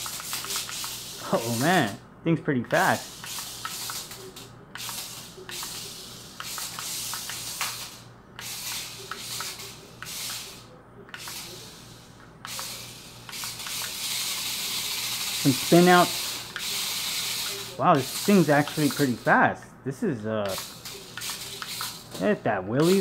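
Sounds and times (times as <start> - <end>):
toy car motors whirring: 0.0 - 2.0, 2.7 - 19.4, 20.4 - 23.0.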